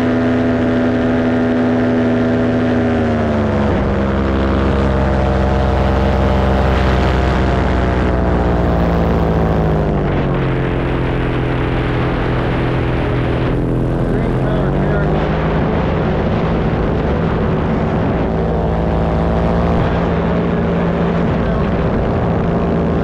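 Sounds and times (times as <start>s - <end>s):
paramotor engine and propeller: 0.0s - 23.0s.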